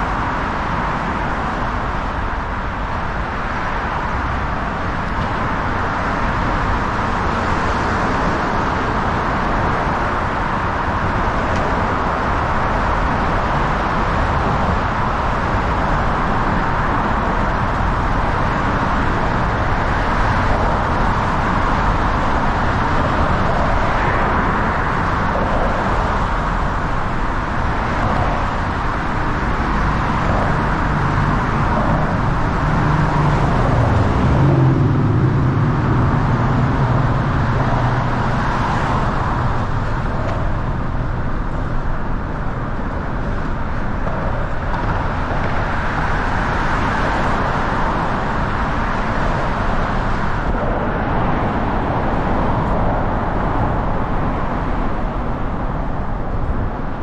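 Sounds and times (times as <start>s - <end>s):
passing vehicle engine hum: 0.0s - 57.0s
road traffic noise: 0.0s - 57.0s.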